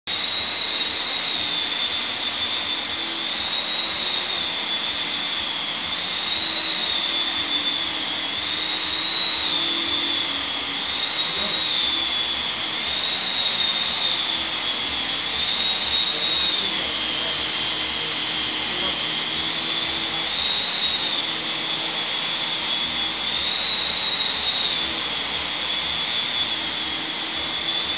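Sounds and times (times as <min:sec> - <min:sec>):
vacuum cleaner whining: 0:00.1 - 0:27.9.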